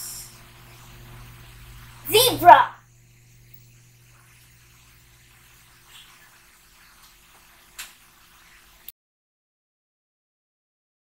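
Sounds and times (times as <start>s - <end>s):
low hum and hiss: 0.0s - 8.9s.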